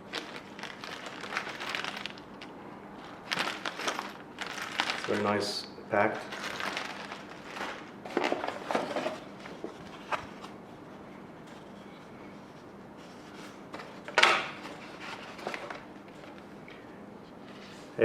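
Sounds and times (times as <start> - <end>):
packaging rustle: 0.0 - 5.5, 6.1 - 10.6, 11.4 - 16.6.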